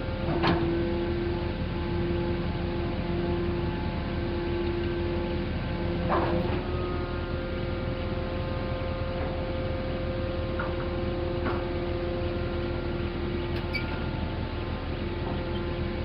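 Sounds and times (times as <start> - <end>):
engine running: 0.0 - 16.0
hydraulic whine: 0.0 - 16.0.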